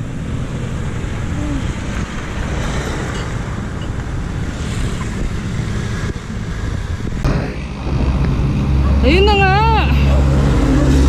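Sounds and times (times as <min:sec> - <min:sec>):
road traffic: 0:00.0 - 0:11.0
wind rumbling on microphone: 0:00.0 - 0:11.0.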